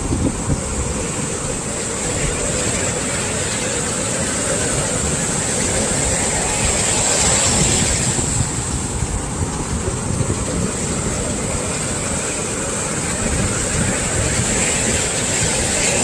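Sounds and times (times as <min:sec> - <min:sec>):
ocean surf breaking on beach: 0:00.0 - 0:16.0.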